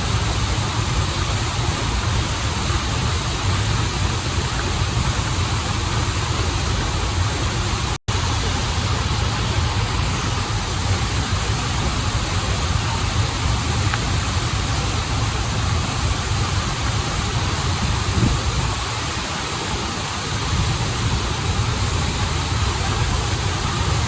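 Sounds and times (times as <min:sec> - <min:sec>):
running water in a stream: 0:00.0 - 0:24.0.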